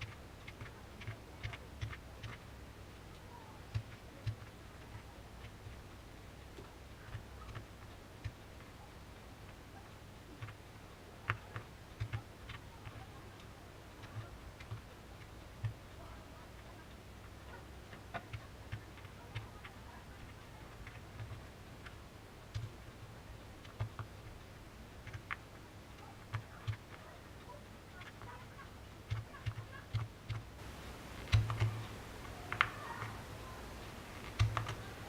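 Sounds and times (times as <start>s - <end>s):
low steady hum: 0.0s - 35.0s
paper and cardboard handled: 0.0s - 35.0s.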